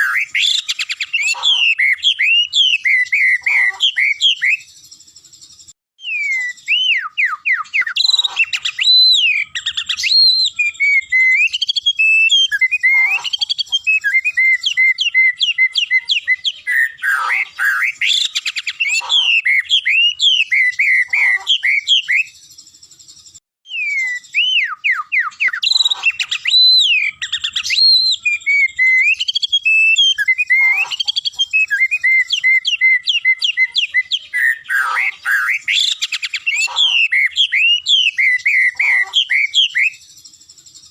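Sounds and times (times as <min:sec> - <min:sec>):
songbird singing whistled glides: 0:00.0 - 0:40.9.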